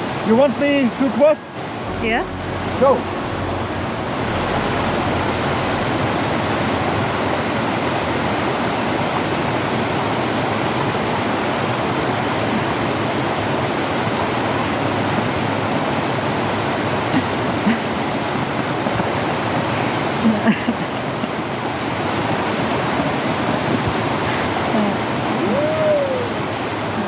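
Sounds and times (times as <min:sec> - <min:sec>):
creek water rushing: 0:00.0 - 0:27.0.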